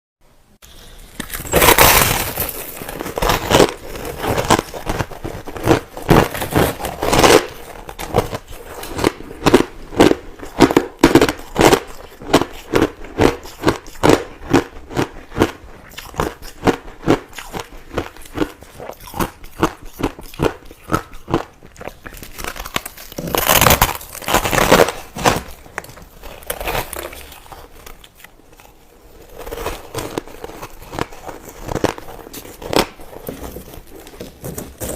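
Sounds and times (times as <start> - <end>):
chewing crushed ice: 0.6 - 34.9.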